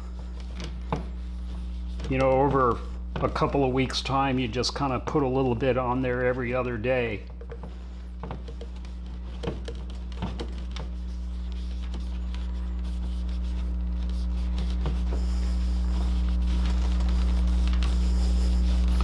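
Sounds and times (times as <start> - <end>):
cloth rubbing on plastic: 0.0 - 4.0, 7.6 - 19.0
low hum: 0.0 - 19.0.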